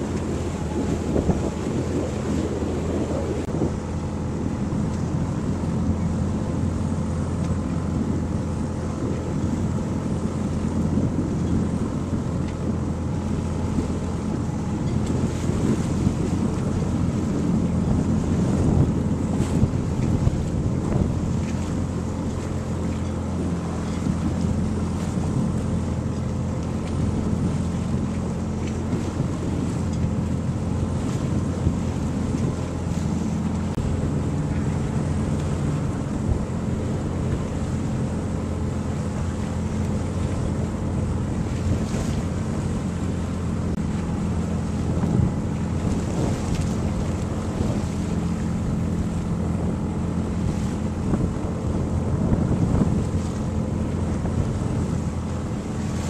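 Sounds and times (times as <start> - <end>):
boat engine droning: 0.0 - 56.0
water rushing along hull: 0.0 - 56.0
wind buffeting microphone: 0.0 - 56.0.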